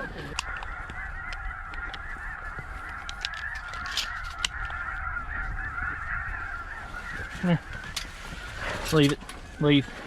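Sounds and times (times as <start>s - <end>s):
flock of geese honking: 0.0s - 10.0s.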